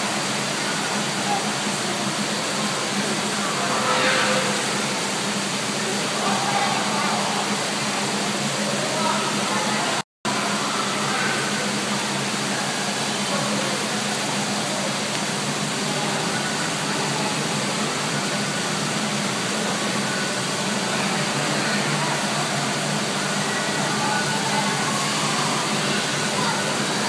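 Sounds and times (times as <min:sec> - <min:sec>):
water rushing and splashing: 0:00.0 - 0:27.0.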